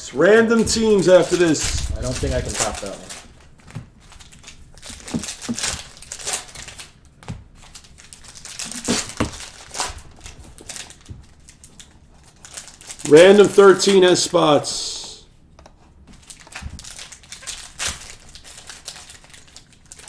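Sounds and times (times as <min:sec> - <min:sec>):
card wrappers crinkling and tearing: 0:00.2 - 0:15.0, 0:16.2 - 0:20.0.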